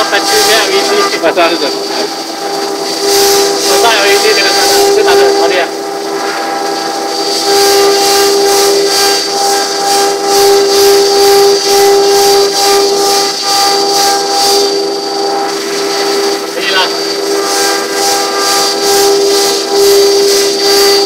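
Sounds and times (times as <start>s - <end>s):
router spindle high-pitched whine: 0.0s - 21.0s
wood cutting hiss: 0.0s - 21.0s.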